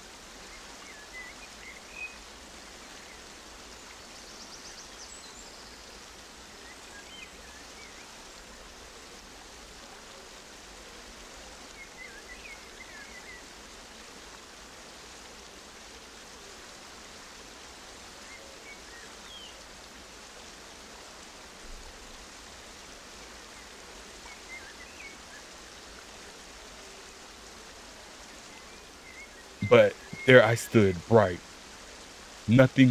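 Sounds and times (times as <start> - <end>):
rushing outdoor hiss: 0.0 - 32.9.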